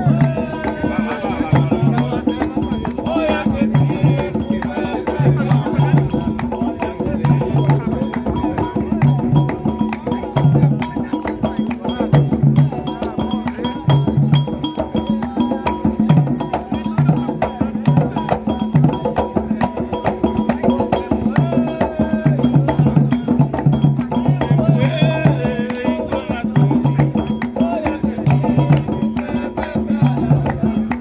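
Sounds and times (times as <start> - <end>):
hand drums playing fast rhythm: 0.0 - 31.0.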